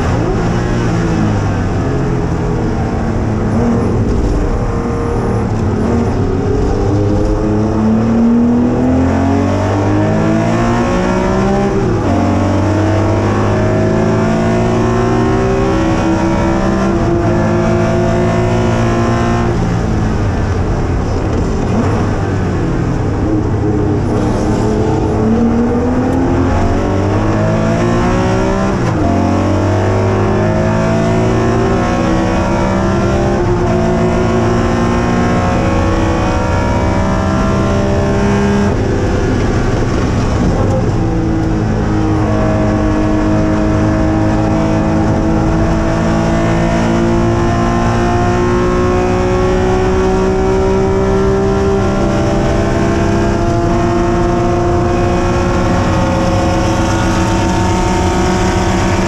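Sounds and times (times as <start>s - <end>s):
race engine at full throttle: 0.0s - 59.0s.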